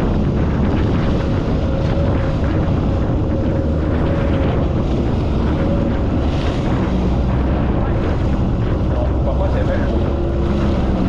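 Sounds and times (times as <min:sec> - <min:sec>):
jet ski engine whine: 0:00.0 - 0:11.0
rushing water: 0:00.0 - 0:11.0
wind noise on microphone: 0:00.0 - 0:11.0.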